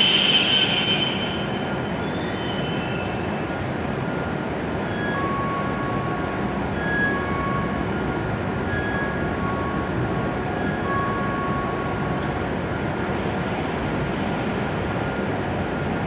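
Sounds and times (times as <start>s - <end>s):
high train squeals: 0.0s - 14.0s
train running noise: 0.0s - 16.0s.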